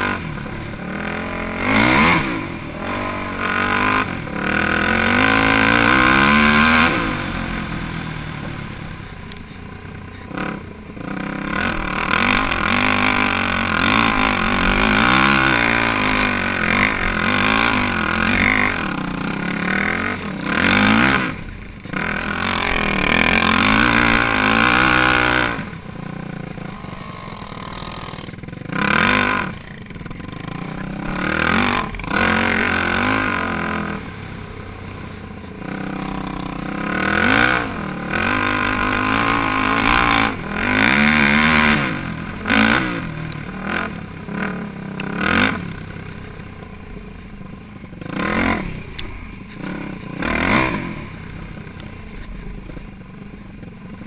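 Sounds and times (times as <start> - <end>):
quad engine revving: 0.0 - 47.2, 47.9 - 52.9.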